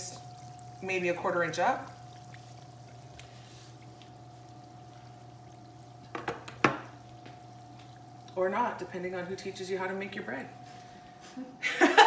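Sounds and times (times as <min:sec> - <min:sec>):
dough sizzling in hot oil: 0:00.0 - 0:10.3.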